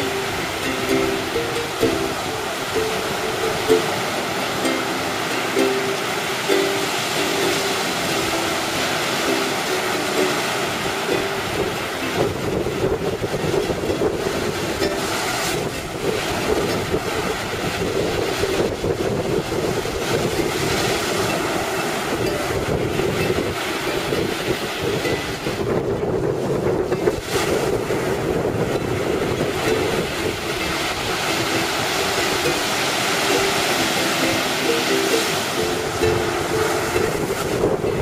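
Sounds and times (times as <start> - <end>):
faint ukulele: 0.0 - 38.0
surf breaking on shore: 0.0 - 38.0
wind on microphone: 0.0 - 38.0.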